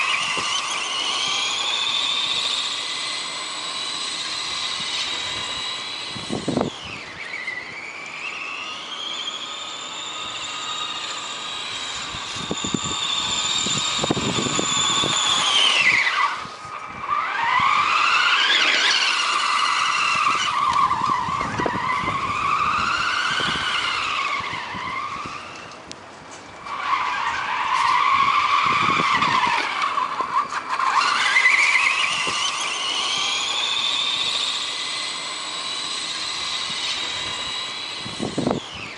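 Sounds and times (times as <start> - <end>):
rc car electric motor whining: 0.0 - 38.9.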